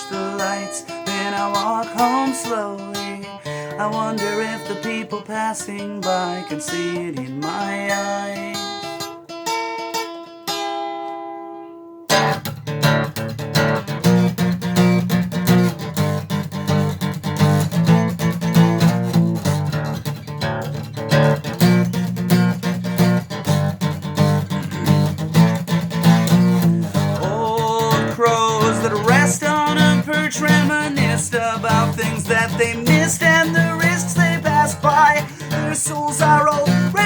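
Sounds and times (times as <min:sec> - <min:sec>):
strummed acoustic guitar: 0:00.0 - 0:37.0.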